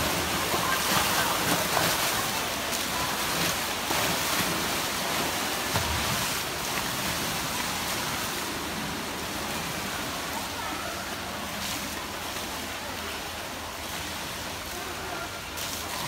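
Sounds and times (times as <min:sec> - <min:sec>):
water splashing and churning: 0:00.0 - 0:16.0.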